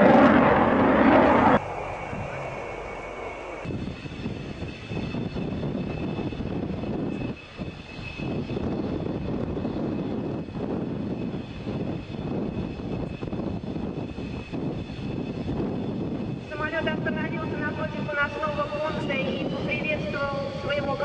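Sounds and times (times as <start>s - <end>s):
jet engine whine and rush: 0.0s - 21.0s.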